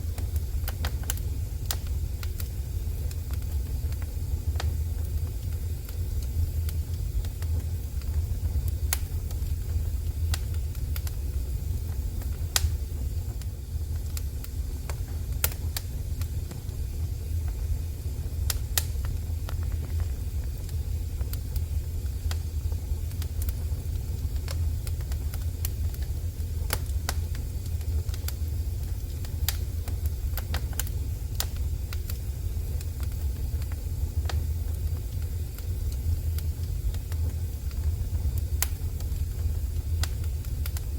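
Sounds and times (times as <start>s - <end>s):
fire low rumble: 0.0s - 40.9s
wood fire crackling and popping: 0.0s - 40.9s.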